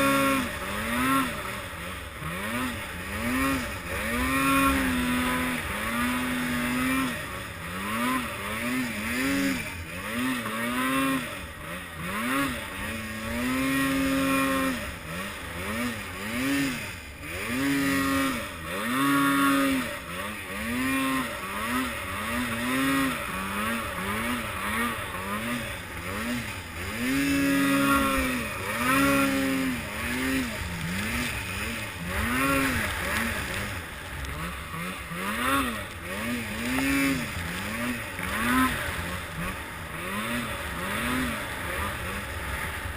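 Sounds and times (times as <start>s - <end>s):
snowmobile engine revving: 0.0s - 42.9s.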